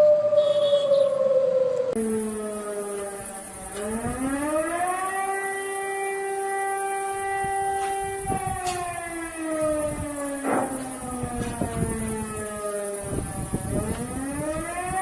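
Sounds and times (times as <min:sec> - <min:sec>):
warning siren winding: 0:01.7 - 0:15.0.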